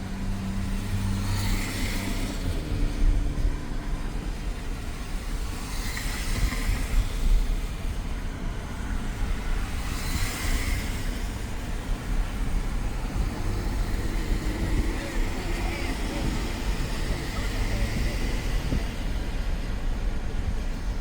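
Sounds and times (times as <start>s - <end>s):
low tyre rumble: 0.0s - 21.0s
wind hiss through open window: 0.0s - 21.0s.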